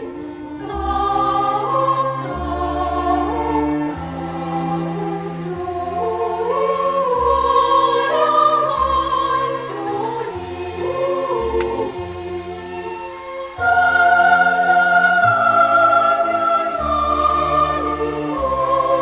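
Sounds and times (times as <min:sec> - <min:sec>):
slow choral music: 0:00.0 - 0:19.0.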